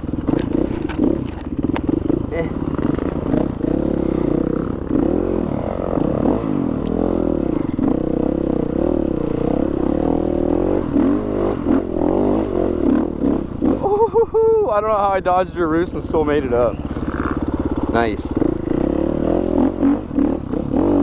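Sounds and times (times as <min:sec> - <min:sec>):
motocross bike engine revving: 0:00.0 - 0:14.2, 0:14.8 - 0:21.0.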